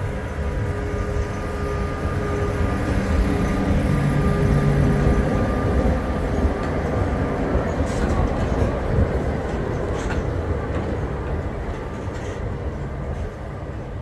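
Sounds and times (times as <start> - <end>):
tram rumbling on track: 0.0 - 14.0.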